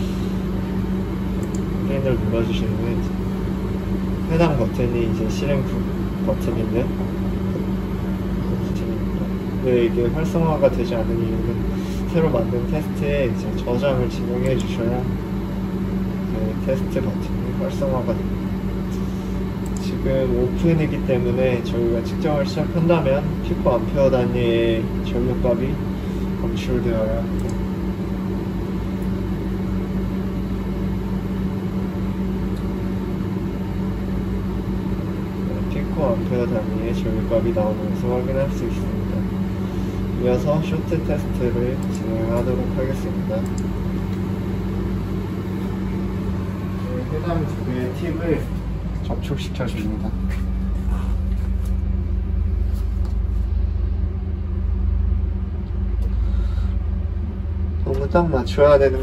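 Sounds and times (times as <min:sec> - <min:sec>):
lab machinery hum: 0:00.0 - 0:59.0.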